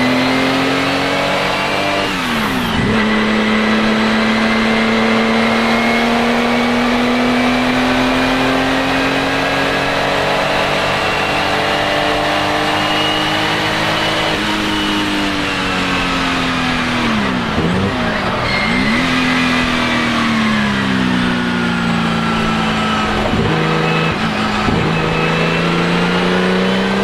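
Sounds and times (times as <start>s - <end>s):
racing engine revving: 0.0s - 27.0s.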